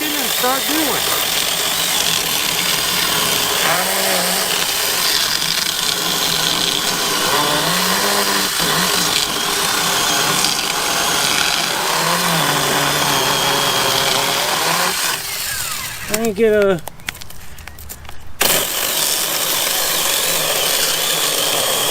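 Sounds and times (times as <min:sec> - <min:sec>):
chainsaw cutting log: 0:00.0 - 0:16.6, 0:18.4 - 0:21.9.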